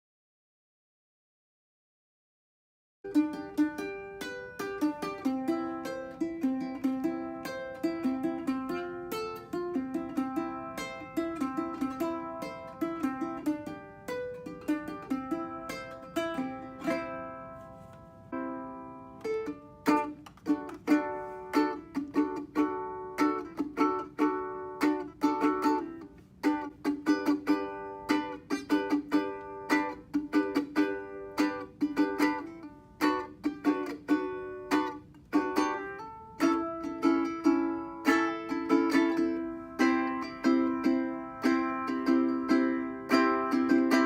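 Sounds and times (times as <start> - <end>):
ukulele strumming: 3.1 - 44.0.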